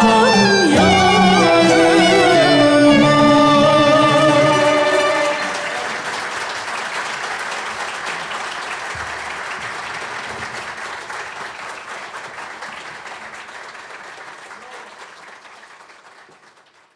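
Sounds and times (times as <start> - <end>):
audience applause: 0.0 - 16.9.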